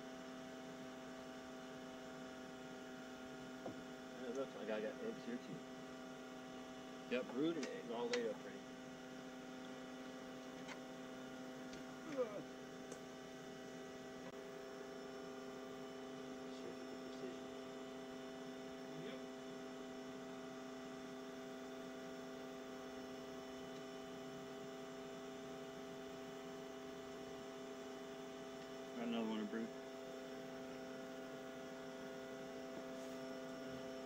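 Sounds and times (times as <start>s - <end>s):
steady machine hum: 0.0s - 34.0s.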